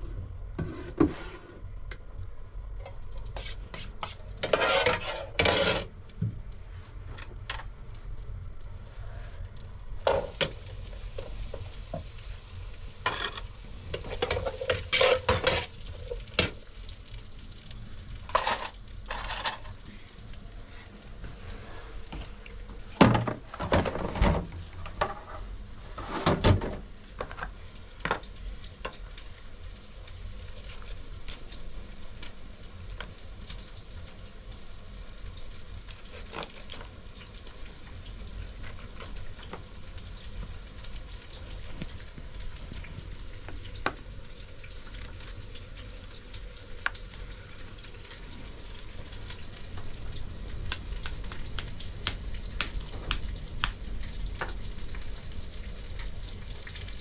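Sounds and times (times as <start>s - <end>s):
steady hiss: 3.0s - 23.6s, 24.6s - 57.0s.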